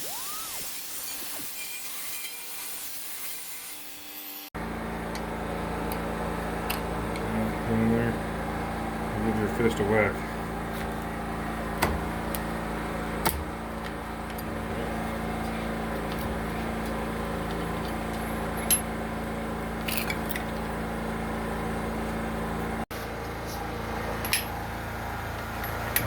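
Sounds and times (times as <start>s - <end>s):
low machine hum: 4.6s - 26.0s.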